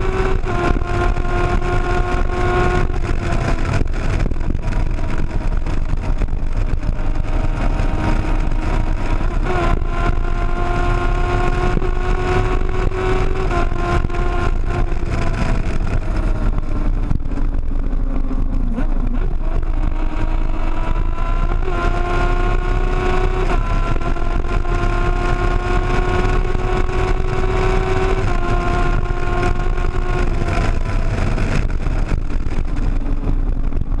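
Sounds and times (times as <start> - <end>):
motorbike engine running hard: 0.0 - 34.0
wind noise on microphone: 0.0 - 34.0.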